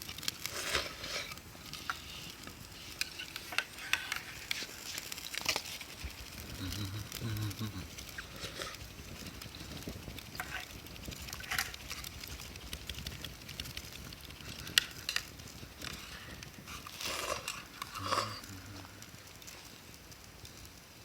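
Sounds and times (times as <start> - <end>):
fire popping and snapping: 0.0 - 21.0
wood fire crackling: 0.0 - 21.0.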